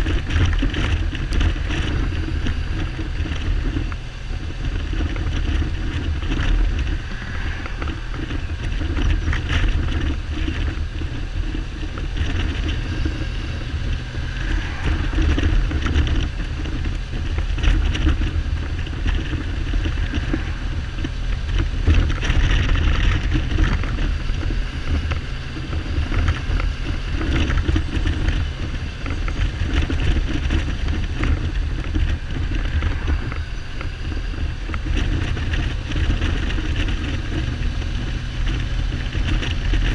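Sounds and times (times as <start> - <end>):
heavy wind noise: 0.0 - 39.9.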